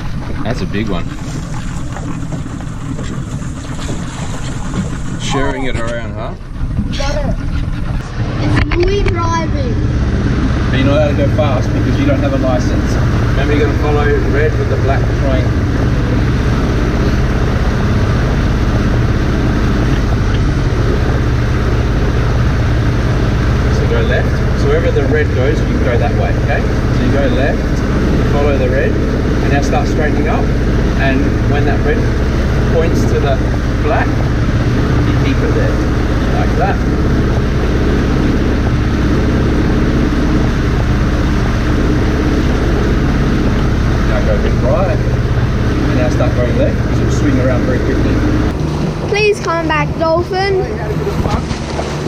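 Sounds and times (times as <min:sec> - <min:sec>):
motorboat engine drone: 0:00.0 - 0:52.0
water rushing: 0:00.0 - 0:52.0
wind: 0:00.0 - 0:52.0.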